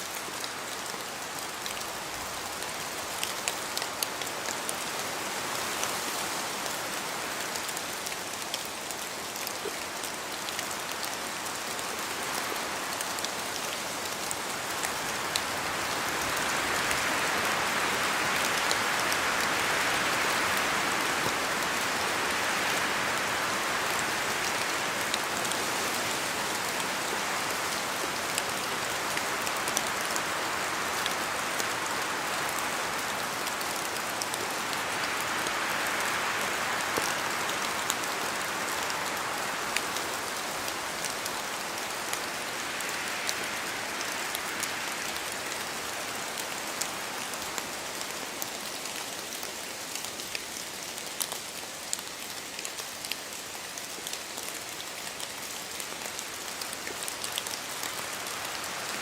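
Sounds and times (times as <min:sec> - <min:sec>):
rain drops ticking in forest: 0:00.0 - 0:59.0
wind through trees: 0:00.0 - 0:59.0.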